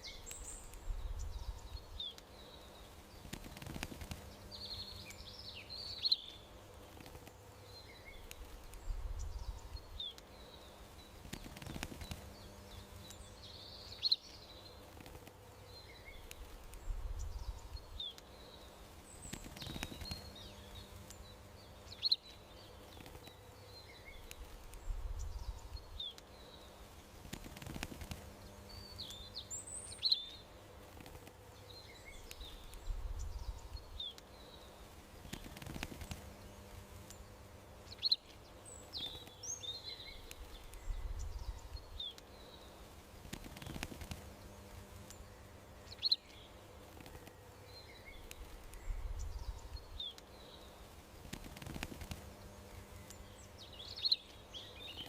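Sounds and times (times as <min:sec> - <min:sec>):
faint outdoor hiss: 0:00.0 - 0:55.0
songbirds chirping: 0:00.0 - 0:55.0.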